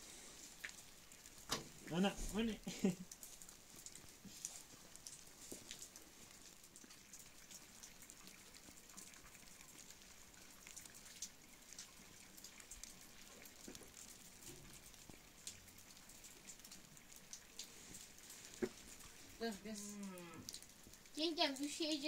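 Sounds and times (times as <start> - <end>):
ticks of falling wet snow: 0.0 - 22.0.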